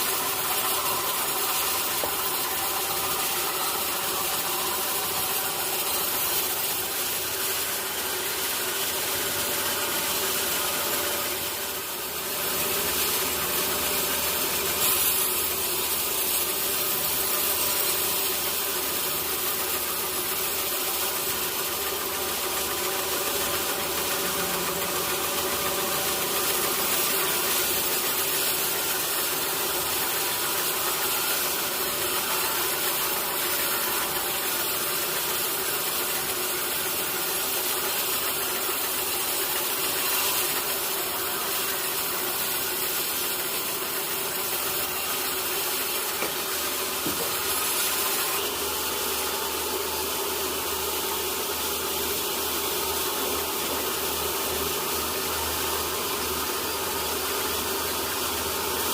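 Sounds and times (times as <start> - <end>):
sawmill saw cutting log: 0.0 - 58.9.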